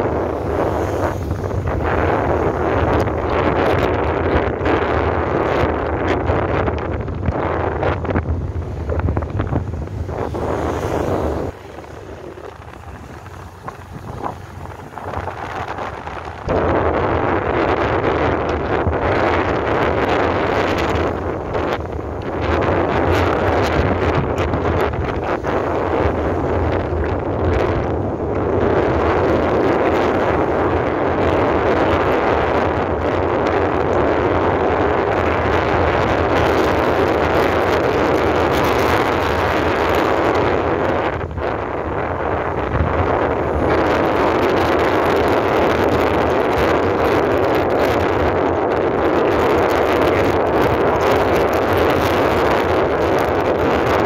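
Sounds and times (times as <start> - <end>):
motorbike engine and road rumble: 0.0 - 54.0
wind buffeting microphone: 0.0 - 54.0.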